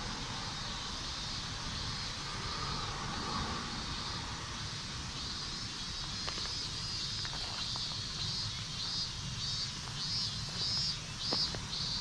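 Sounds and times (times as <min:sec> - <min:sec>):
cicadas pulsing buzz: 0:00.0 - 0:12.0.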